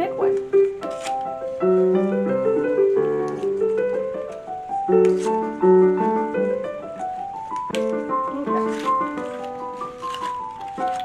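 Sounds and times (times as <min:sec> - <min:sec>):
soft piano music: 0:00.0 - 0:11.0
paper rustling: 0:00.2 - 0:11.0.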